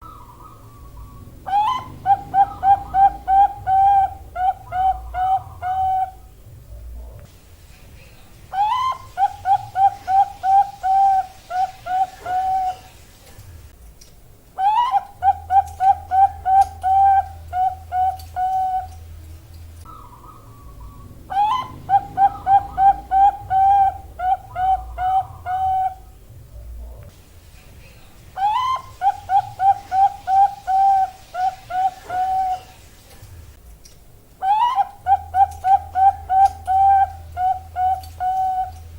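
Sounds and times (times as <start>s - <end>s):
dove cooing: 0.0s - 7.2s, 8.5s - 13.0s, 14.6s - 19.2s, 19.8s - 27.0s, 28.4s - 32.9s, 34.4s - 38.9s.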